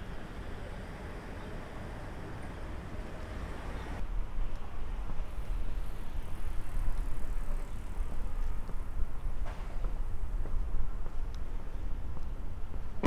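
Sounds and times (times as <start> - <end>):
low rumble of distant traffic: 0.0 - 13.0.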